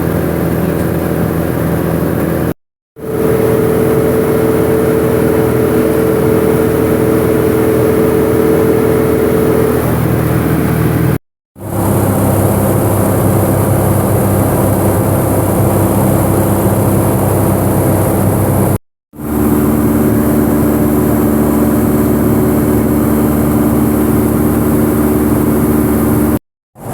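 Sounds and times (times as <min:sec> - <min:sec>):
light aircraft engine and propeller: 0:00.0 - 0:26.9.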